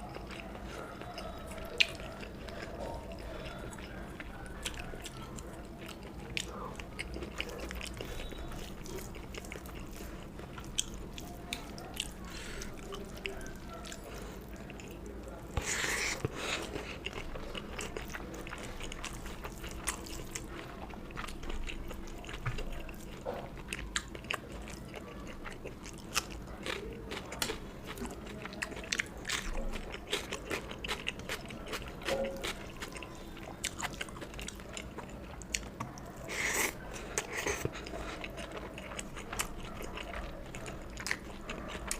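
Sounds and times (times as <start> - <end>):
wet chewing and smacking: 0.0 - 41.9.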